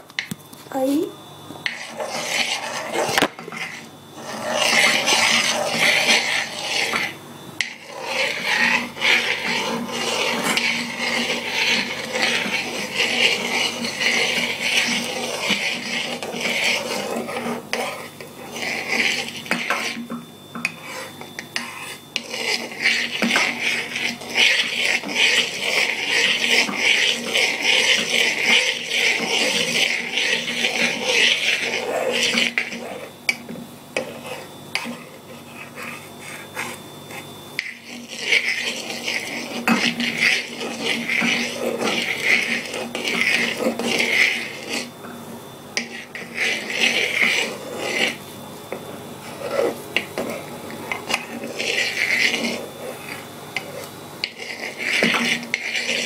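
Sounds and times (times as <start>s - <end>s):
metal spoon scraping a pot: 1.6s - 44.9s, 45.8s - 56.0s.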